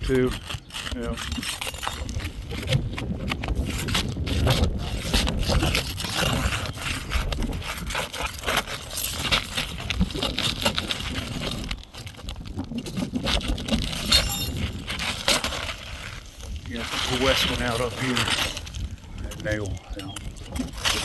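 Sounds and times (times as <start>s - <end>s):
roof shingles scraping and crackling: 0.0s - 21.0s
shingles tearing: 0.0s - 21.0s.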